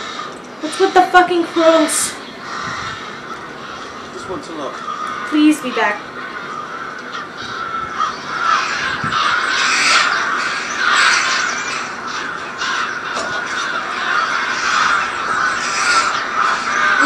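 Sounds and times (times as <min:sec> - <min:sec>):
crows cawing: 0:00.0 - 0:17.0.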